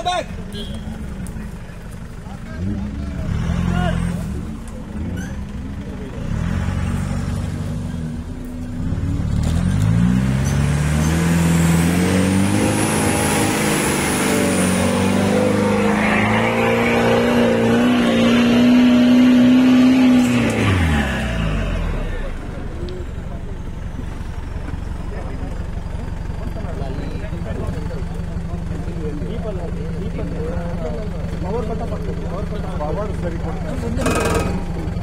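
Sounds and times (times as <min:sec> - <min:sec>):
off-road engine revving: 0:01.0 - 0:35.0.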